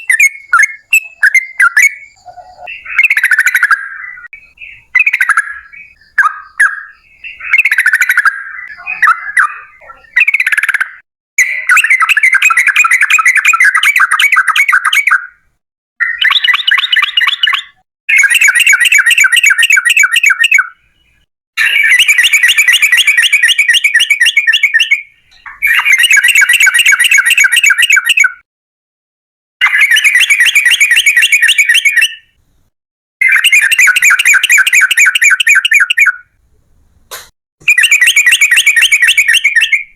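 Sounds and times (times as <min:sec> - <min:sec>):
bulbul singing: 0:00.0 - 0:15.2, 0:16.0 - 0:28.4, 0:29.6 - 0:32.4, 0:33.2 - 0:36.4, 0:37.6 - 0:39.9.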